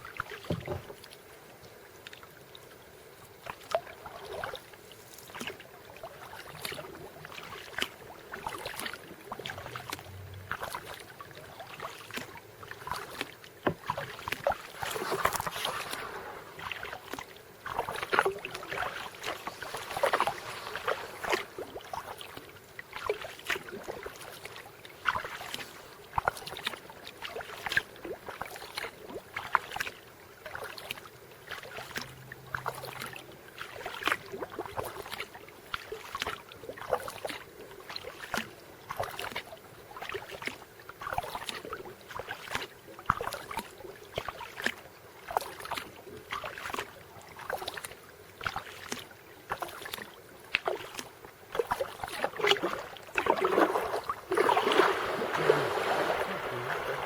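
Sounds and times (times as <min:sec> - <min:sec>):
kayak paddles splashing water: 0:00.0 - 0:57.0.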